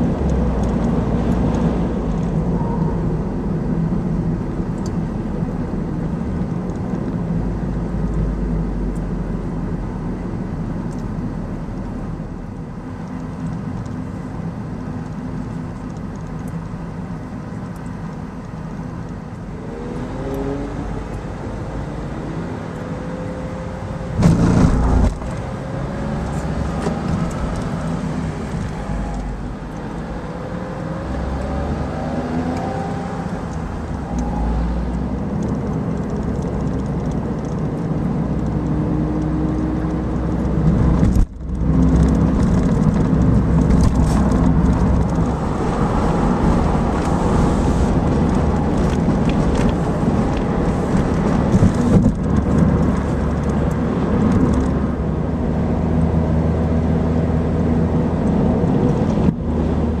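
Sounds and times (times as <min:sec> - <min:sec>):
car engine hum: 0:00.0 - 1:00.0
tyre and road rumble: 0:00.0 - 1:00.0.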